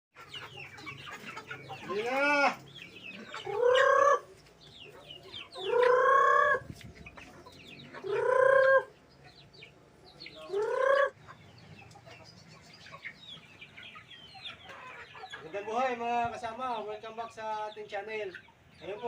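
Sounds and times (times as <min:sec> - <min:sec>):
chickens squawking: 0:00.2 - 0:19.0
chicks peeping: 0:00.2 - 0:19.0.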